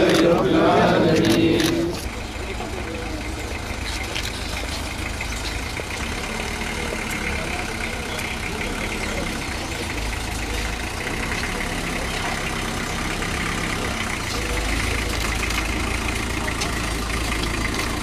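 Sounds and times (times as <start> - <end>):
van engine idling: 0.0 - 18.0.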